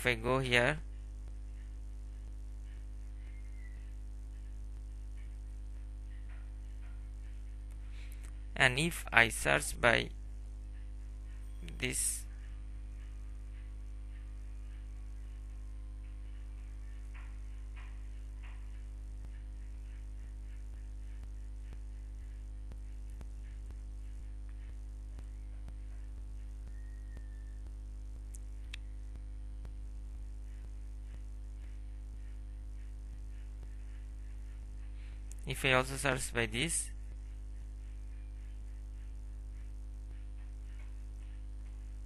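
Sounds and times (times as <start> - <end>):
electrical mains hum: 0.0 - 42.0
faint soft sounds: 0.0 - 42.0.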